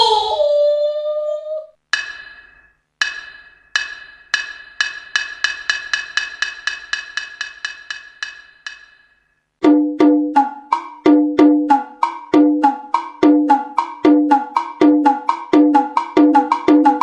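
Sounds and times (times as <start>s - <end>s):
wood block strikes: 2.0s - 17.0s.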